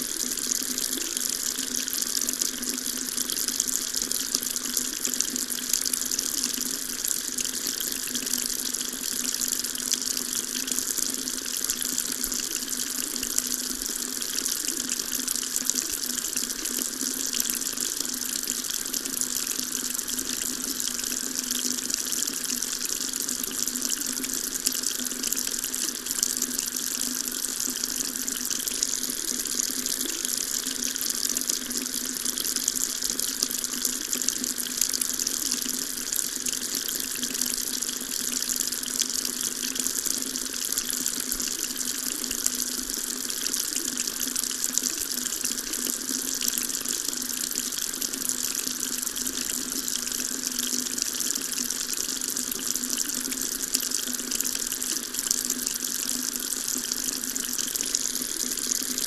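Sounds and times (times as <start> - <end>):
tap water running into sink: 0.0 - 59.0.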